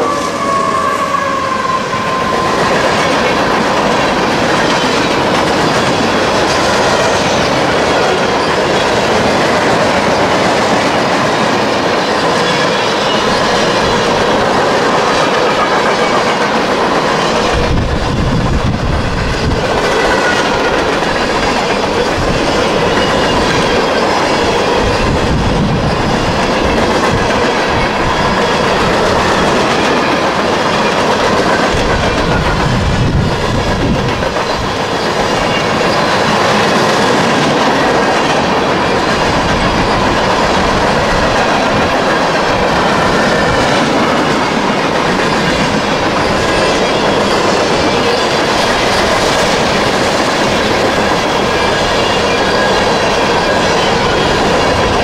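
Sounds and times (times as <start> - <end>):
train wheels clacking on rails: 0.0 - 55.0.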